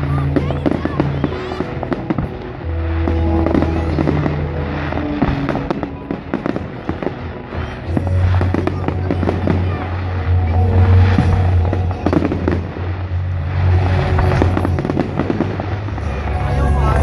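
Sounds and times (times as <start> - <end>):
fireworks bangs and crackling: 0.0 - 17.0
music with held bass notes: 0.0 - 17.0.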